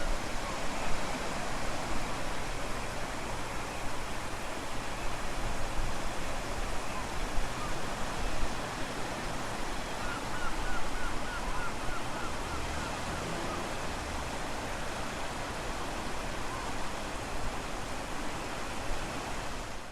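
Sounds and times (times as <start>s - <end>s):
sea rushing: 0.0s - 19.9s
wind: 0.0s - 19.9s.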